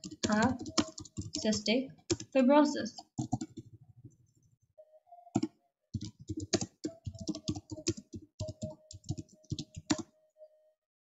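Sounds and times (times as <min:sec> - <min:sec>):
keyboard typing: 0:00.0 - 0:04.2, 0:05.3 - 0:10.1.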